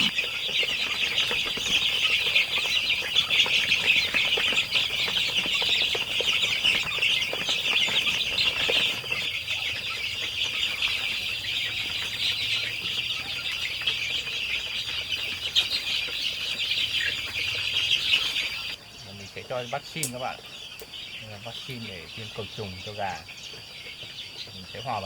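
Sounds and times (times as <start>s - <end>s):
chicks cheeping: 0.0s - 25.0s.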